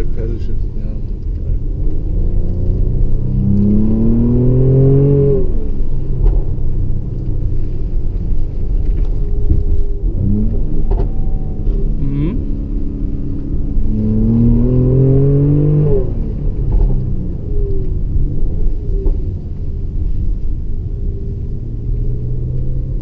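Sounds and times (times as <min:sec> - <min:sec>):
exhaust pops: 0:00.0 - 0:19.9
car engine revving: 0:00.0 - 0:23.0.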